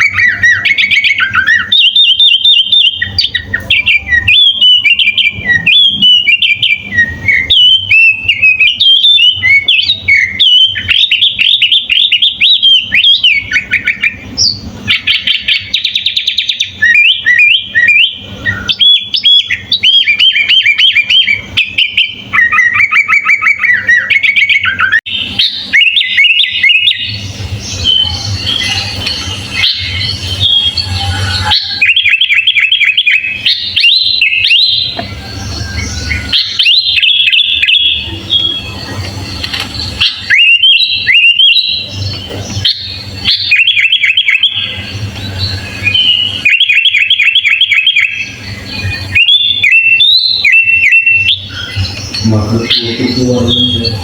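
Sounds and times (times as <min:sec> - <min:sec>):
bulbul singing chirps and whistles: 0:00.0 - 0:54.0.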